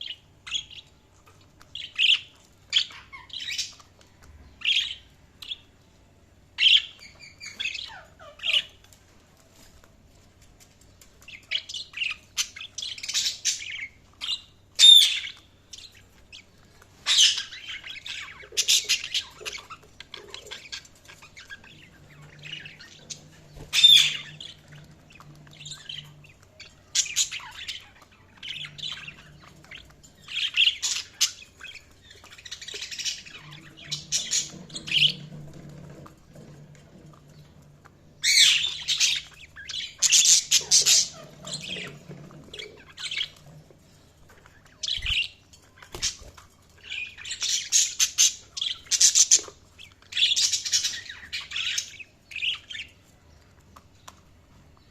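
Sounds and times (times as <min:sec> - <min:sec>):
budgies chirping and squawking: 0:00.0 - 0:54.2.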